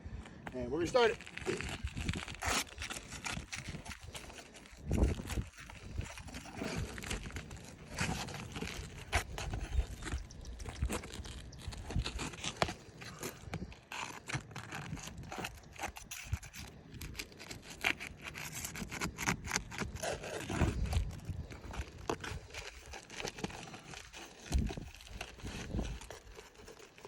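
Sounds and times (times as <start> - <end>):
shingles scraping and rubbing: 0.8 - 27.0
shingles cracking: 1.0 - 27.0.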